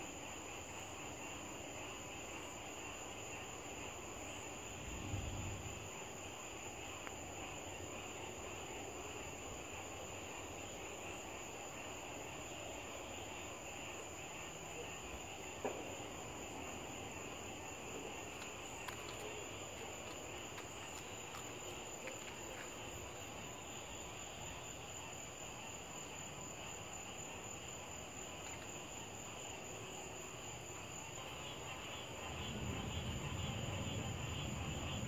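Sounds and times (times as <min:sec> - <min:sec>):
crickets and insects chirping: 0:00.0 - 0:35.0.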